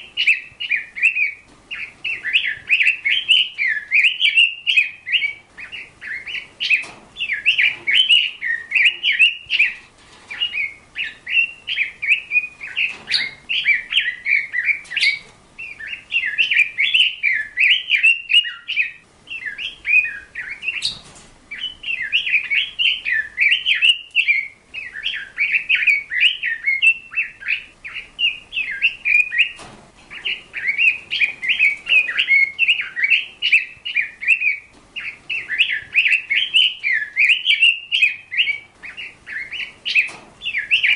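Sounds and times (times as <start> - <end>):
bird warbling chirps: 0.0 - 40.9.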